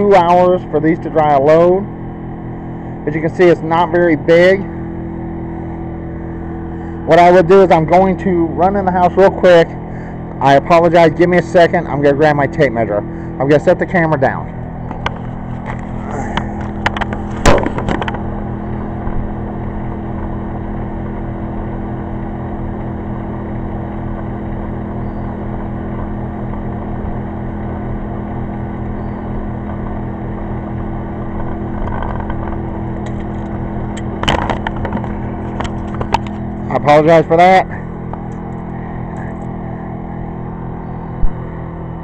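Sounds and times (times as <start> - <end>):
generator running: 0.0 - 42.0.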